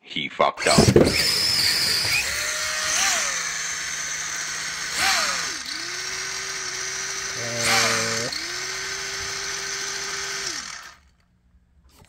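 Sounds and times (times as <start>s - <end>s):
electric motor whining: 0.6s - 11.1s.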